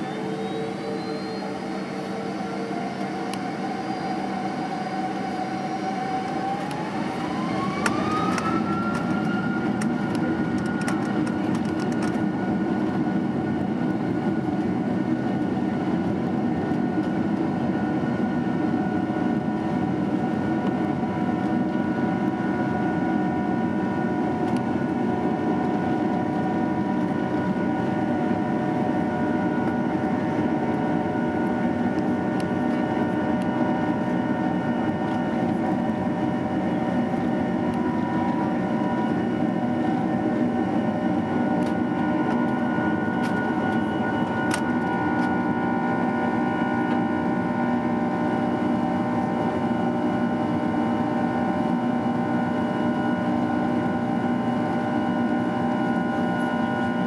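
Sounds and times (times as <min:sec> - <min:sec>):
jet engine rumble: 0:00.0 - 0:57.0
jet engine whine: 0:00.0 - 0:57.0.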